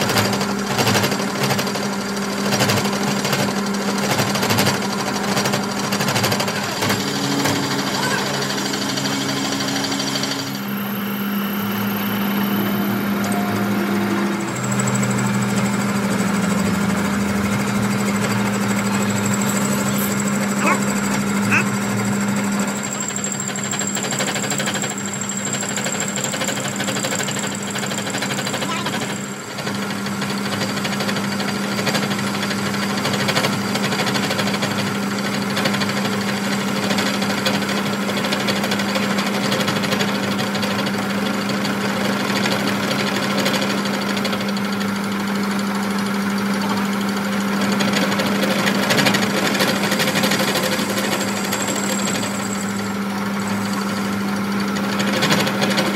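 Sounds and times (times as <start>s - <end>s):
workshop machine humming and rattling: 0.0s - 55.9s.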